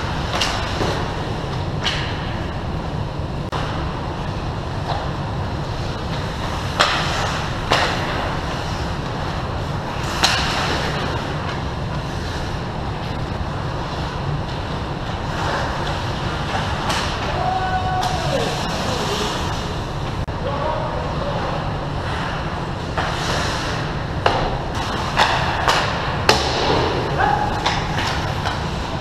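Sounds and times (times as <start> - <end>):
skates and sticks scraping ice: 0.0 - 2.3, 5.7 - 20.2, 21.4 - 29.0
steady low rumble: 0.0 - 29.0.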